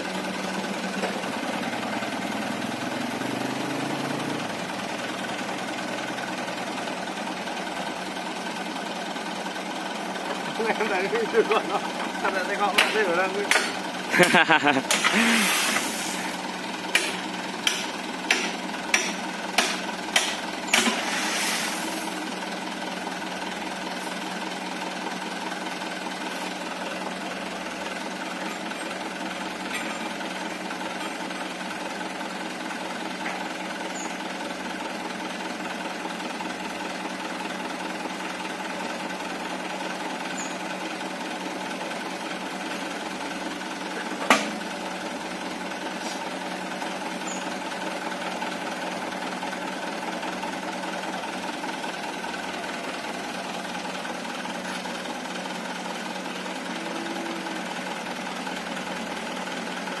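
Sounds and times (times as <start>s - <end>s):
truck engine idling: 0.0s - 60.0s.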